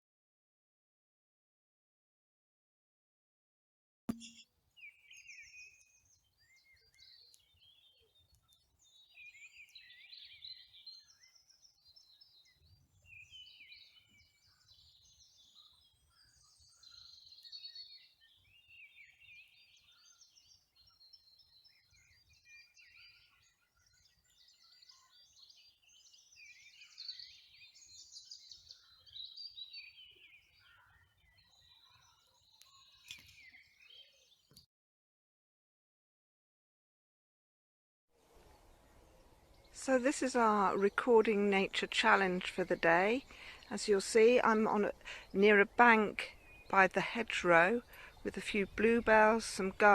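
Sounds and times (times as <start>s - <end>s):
songbirds singing: 4.1s - 34.7s, 38.2s - 49.9s.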